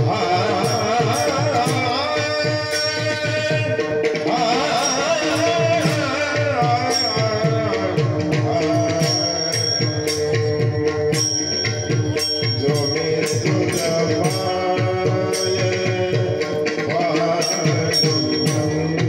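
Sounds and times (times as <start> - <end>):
hand cymbals clashing: 0.0 - 19.0
hand drum beat: 0.0 - 19.0
held melodic tones: 0.0 - 19.0.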